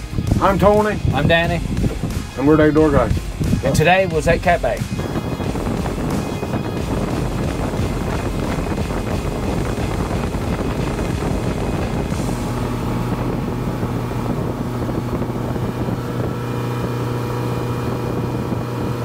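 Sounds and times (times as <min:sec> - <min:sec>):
motorboat running at speed: 0:00.0 - 0:19.0
outboard motor hum: 0:00.0 - 0:19.0
wind and water spray rushing: 0:00.0 - 0:19.0.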